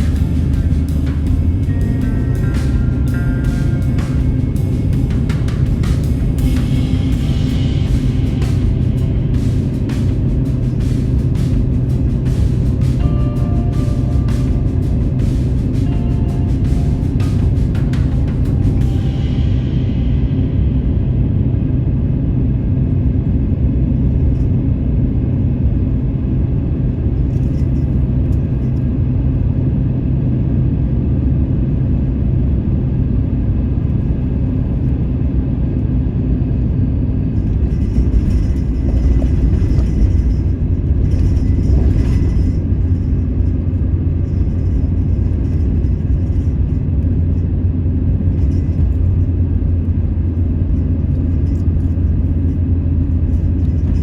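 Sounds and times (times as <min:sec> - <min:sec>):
van engine and road rumble: 0:00.0 - 0:54.0.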